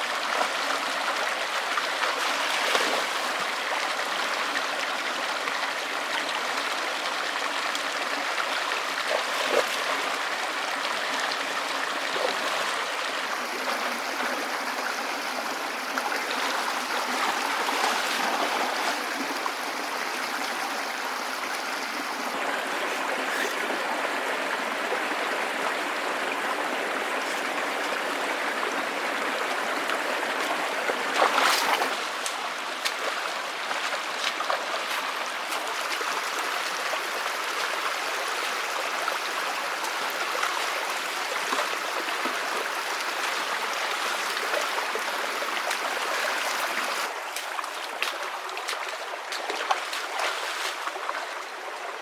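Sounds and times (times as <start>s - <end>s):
stream water running: 0.0s - 52.0s.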